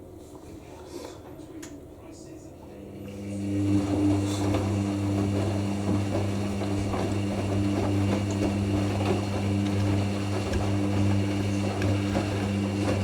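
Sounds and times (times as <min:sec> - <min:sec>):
washing machine humming: 0:01.7 - 0:13.0.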